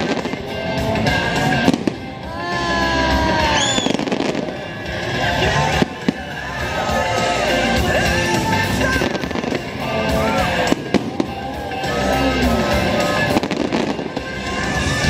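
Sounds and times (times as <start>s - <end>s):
fireworks booms and bangs: 0.0s - 2.2s, 3.2s - 7.1s, 7.9s - 15.0s
soundtrack music: 0.0s - 15.0s.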